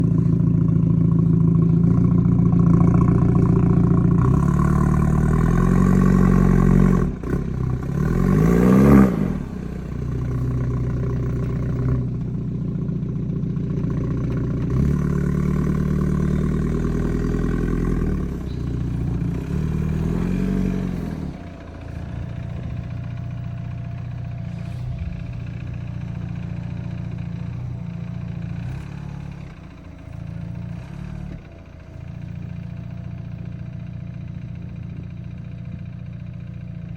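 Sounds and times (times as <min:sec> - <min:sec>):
car engine and exhaust revving: 0:00.0 - 0:36.9.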